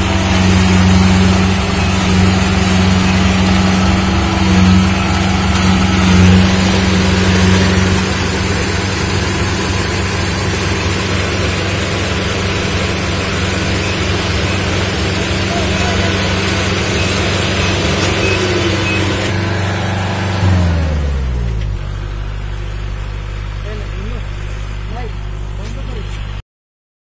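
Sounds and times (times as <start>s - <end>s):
combine harvester engine hum: 0.0s - 26.4s.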